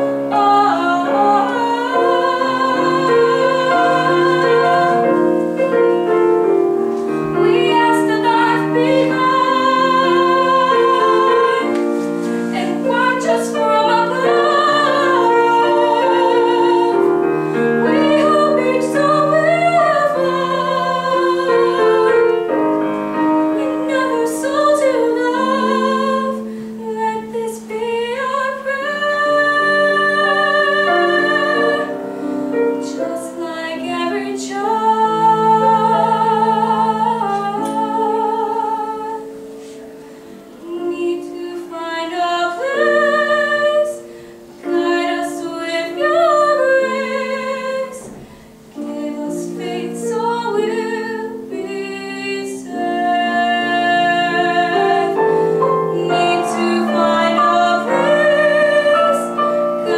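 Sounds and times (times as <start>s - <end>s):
girl singing classical solo: 0.0s - 59.9s
piano chords: 0.0s - 59.9s.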